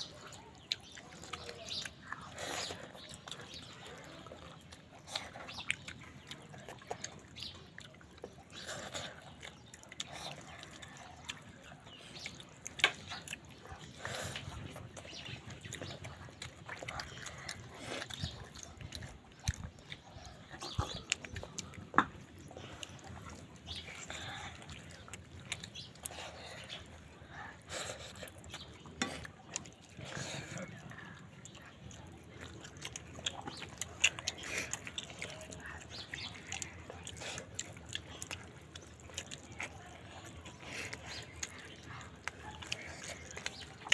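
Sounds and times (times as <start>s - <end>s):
lip smacks: 0.0s - 43.9s
person chewing with mouth clicks: 0.0s - 43.9s.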